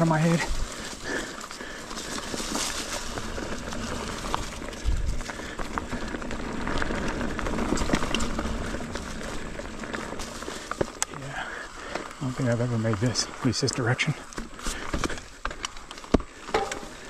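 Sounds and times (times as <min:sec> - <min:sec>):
bike clicks and rattles: 0:00.0 - 0:17.0
bike tyres on dirt: 0:00.0 - 0:17.0.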